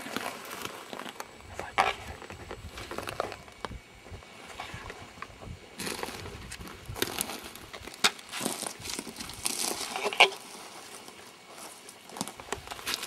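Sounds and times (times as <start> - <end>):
crackling and rustling: 0.0 - 13.0.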